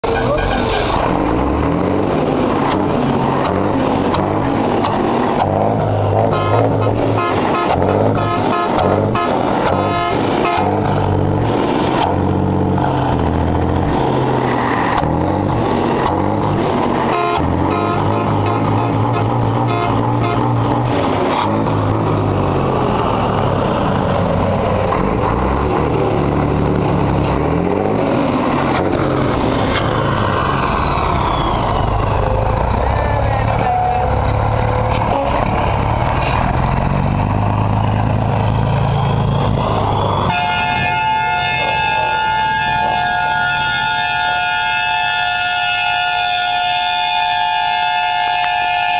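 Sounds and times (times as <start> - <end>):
diesel truck engine revving: 0.0 - 48.9.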